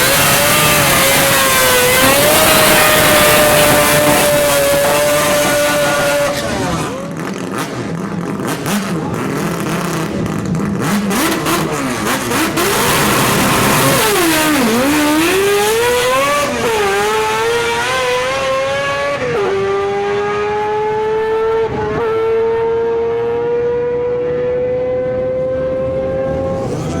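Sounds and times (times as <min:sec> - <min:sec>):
rotary engine revving hard: 0:00.0 - 0:27.0.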